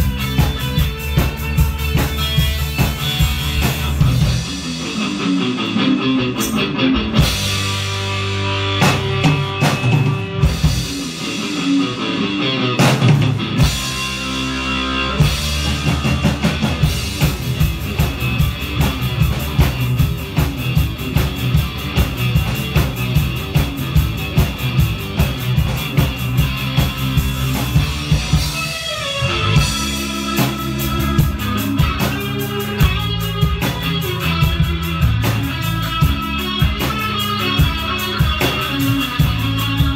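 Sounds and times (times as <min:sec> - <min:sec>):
distorted electric guitar: 0:00.0 - 0:39.9
drum kit beat: 0:00.0 - 0:39.9.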